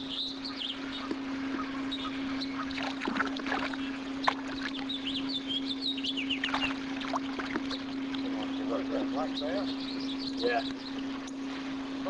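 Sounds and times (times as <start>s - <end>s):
birds chirping: 0.0s - 12.0s
low hum: 0.0s - 12.0s.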